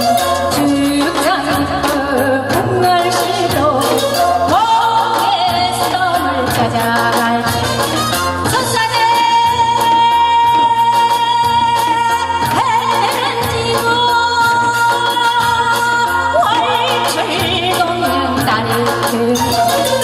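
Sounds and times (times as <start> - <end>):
backing music with drum beats: 0.0 - 20.0
woman singing into a microphone: 0.0 - 20.0.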